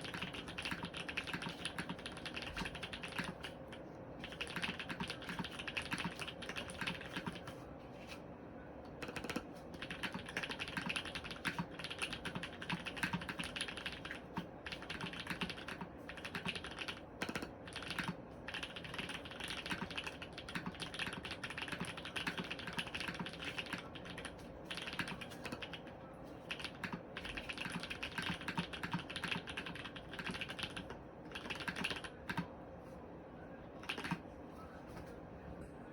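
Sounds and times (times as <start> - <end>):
fast mechanical keyboard typing: 0.0 - 7.6, 9.0 - 32.5, 33.8 - 34.2.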